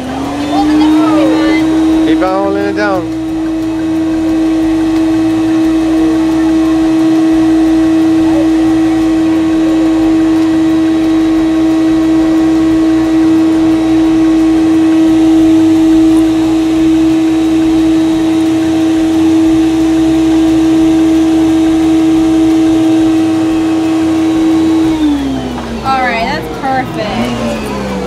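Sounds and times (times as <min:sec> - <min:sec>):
stuffing machine blower humming: 0:00.0 - 0:28.0.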